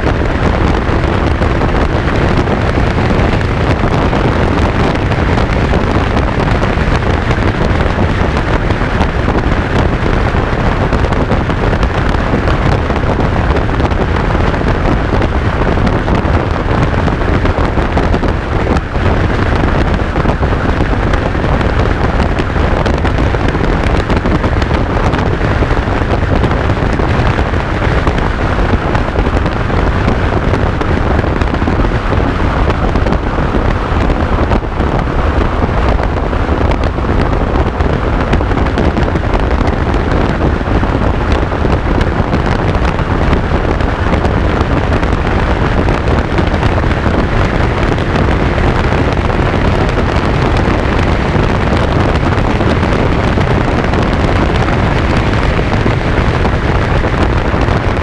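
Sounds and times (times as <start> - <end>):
motorcycle engine and road noise: 0.0 - 58.0
wind buffeting microphone: 0.0 - 58.0.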